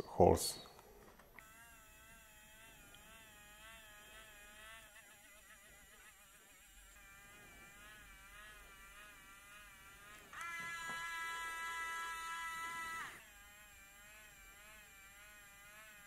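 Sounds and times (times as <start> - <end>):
small motor whining: 1.2 - 16.0.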